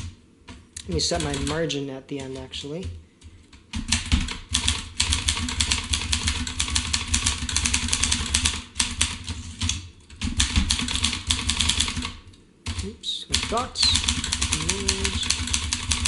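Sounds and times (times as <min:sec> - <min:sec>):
typewriter keys clacking: 0:00.8 - 0:02.9, 0:03.5 - 0:16.0.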